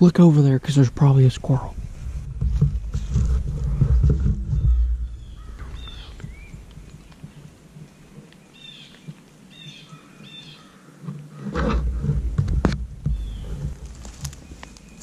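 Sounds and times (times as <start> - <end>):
rustling: 1.6 - 15.0.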